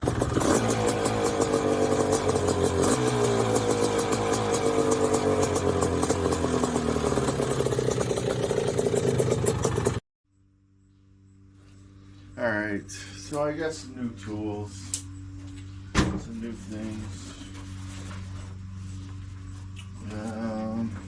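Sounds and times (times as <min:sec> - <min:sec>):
engine running: 0:00.0 - 0:10.0, 0:11.4 - 0:21.0.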